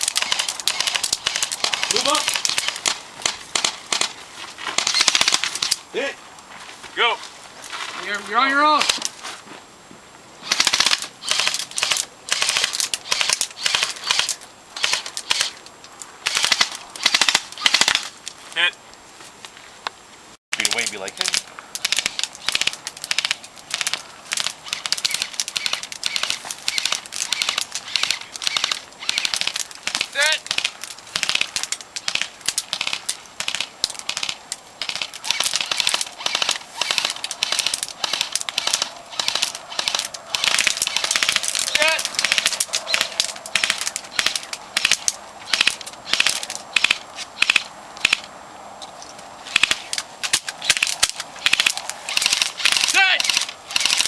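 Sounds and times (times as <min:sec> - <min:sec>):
airsoft guns firing rapid clicks: 0:00.0 - 0:04.2, 0:04.8 - 0:05.8, 0:08.8 - 0:09.1, 0:10.4 - 0:15.6, 0:16.2 - 0:18.1, 0:20.6 - 0:48.3, 0:49.5 - 0:54.0.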